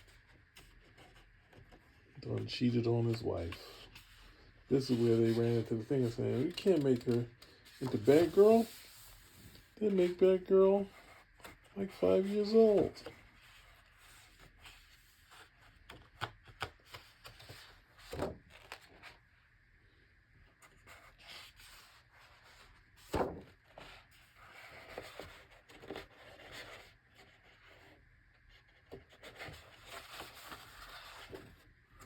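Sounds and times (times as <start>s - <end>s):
book pages rustling: 0.0s - 19.2s, 20.6s - 32.0s.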